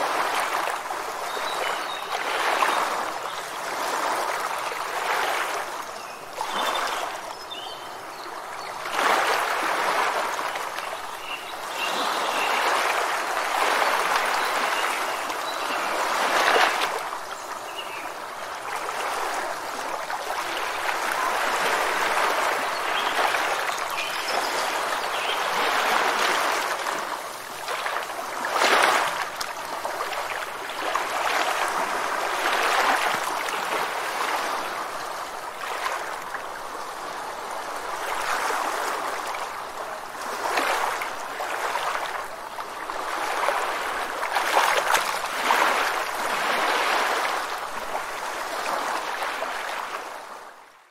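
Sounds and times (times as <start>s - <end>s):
running water rushing: 0.0s - 50.7s.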